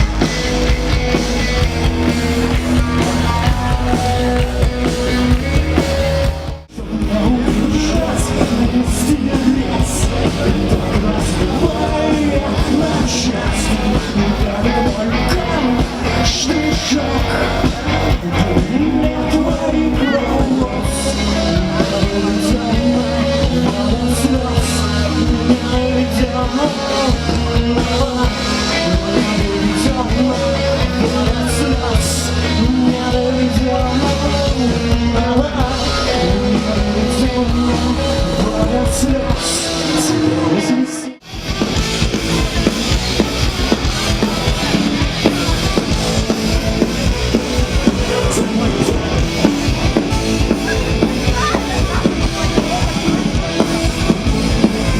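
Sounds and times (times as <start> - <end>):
drum kit: 0.0 - 54.9
electric guitar: 0.0 - 54.9
person singing: 0.0 - 54.9.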